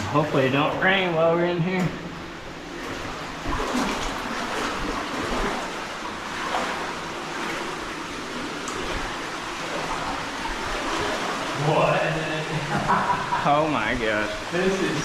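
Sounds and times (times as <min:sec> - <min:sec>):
water splashes: 0:00.0 - 0:15.0
rushing stream water: 0:02.7 - 0:15.0.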